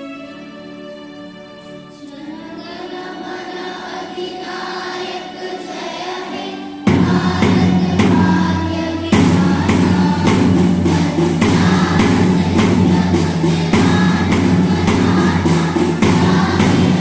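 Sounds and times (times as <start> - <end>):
instrumental accompaniment: 0.0 - 17.0
children singing together: 1.6 - 17.0.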